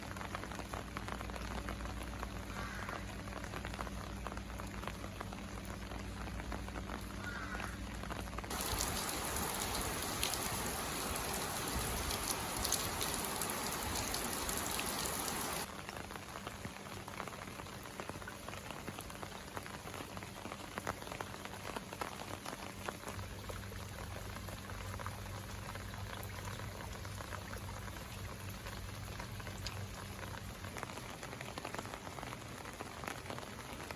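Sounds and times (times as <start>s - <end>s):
rain pattering on surfaces: 0.0s - 33.9s.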